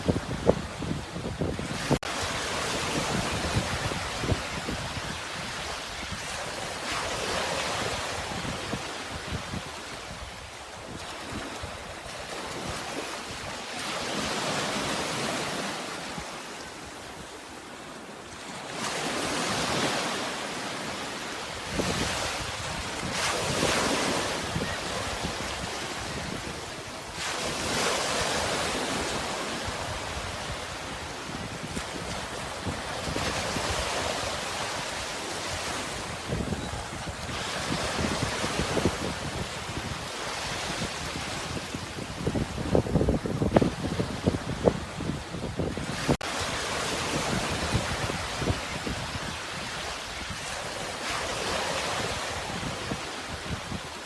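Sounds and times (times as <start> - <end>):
wind rumbling on microphone: 0.0 - 13.6, 21.6 - 54.0.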